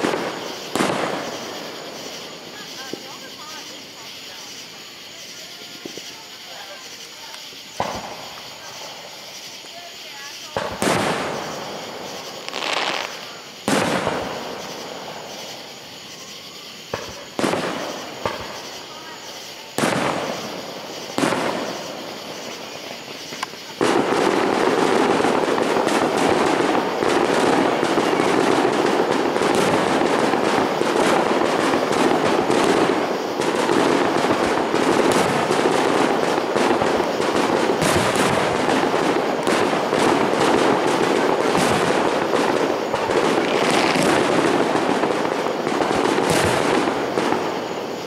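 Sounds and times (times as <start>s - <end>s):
fireworks bangs and crackle: 0.0s - 48.0s.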